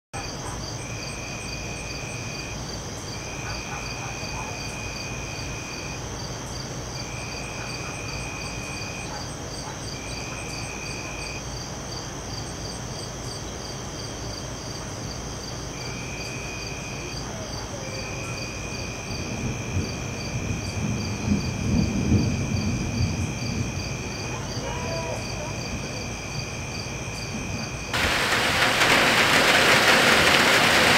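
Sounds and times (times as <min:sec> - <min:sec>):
crickets trilling: 0:00.2 - 0:30.9.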